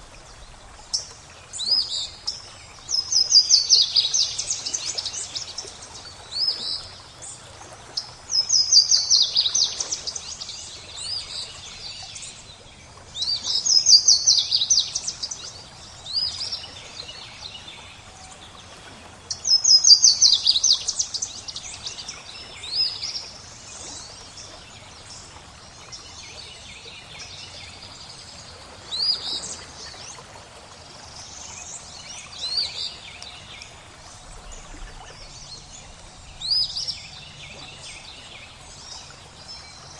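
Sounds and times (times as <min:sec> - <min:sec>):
faint flowing water: 0:00.0 - 0:39.9.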